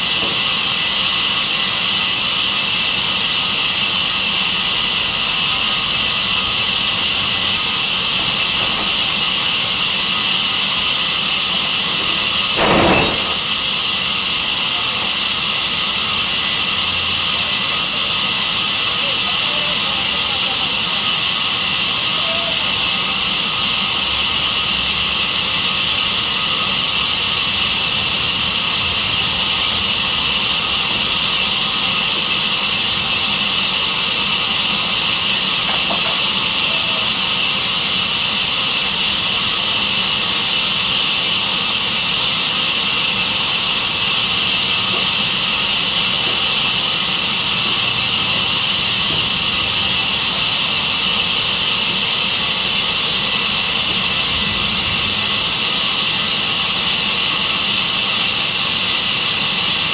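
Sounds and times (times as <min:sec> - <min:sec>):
band saw hissing: 0:00.0 - 0:59.9.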